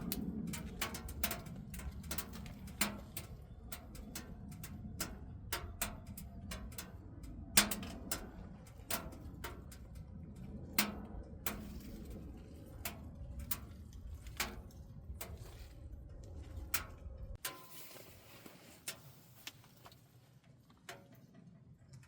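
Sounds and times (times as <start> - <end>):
firewood crackling in a stove: 0.0 - 22.0.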